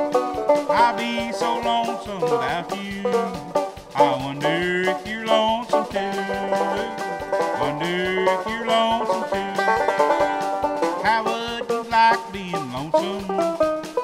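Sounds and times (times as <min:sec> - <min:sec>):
banjo picking: 0:00.0 - 0:14.0.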